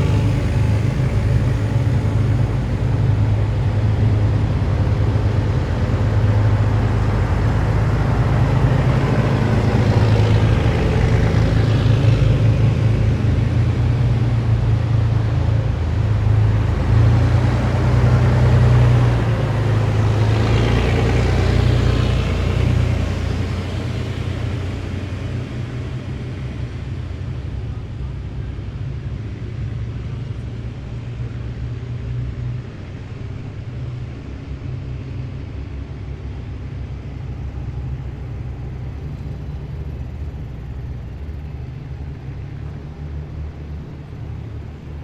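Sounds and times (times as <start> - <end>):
heavy vehicles driving past: 0.0 - 45.0.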